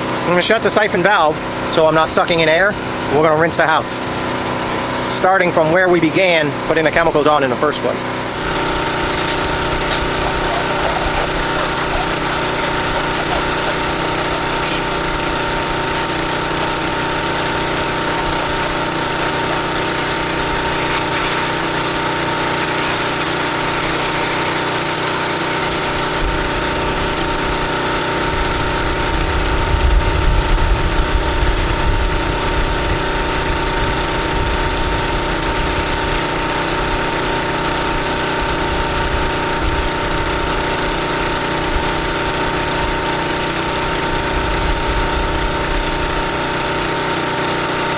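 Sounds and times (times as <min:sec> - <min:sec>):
pressure washer engine whining: 0:00.0 - 0:47.9
high-pressure water spraying: 0:04.0 - 0:05.2, 0:08.0 - 0:29.4, 0:31.1 - 0:47.9.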